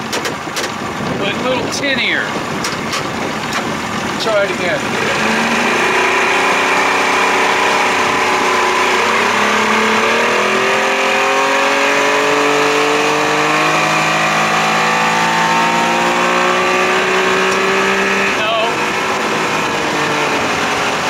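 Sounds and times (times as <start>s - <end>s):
outboard motor accelerating: 0.0s - 21.0s.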